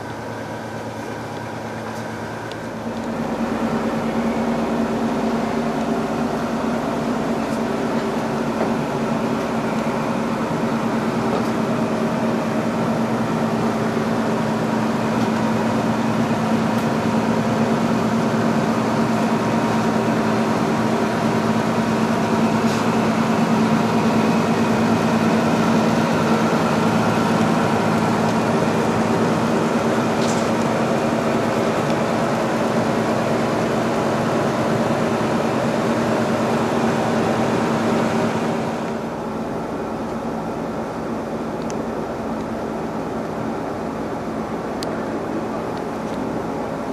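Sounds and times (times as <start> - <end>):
steady mechanical hum: 0.0 - 46.9.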